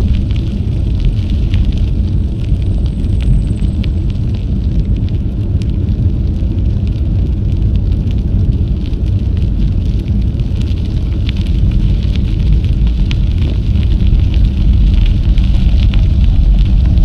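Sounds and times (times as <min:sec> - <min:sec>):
tyres crackling on gravel: 0:00.0 - 0:17.0
wind rumbling on microphone: 0:00.0 - 0:17.0.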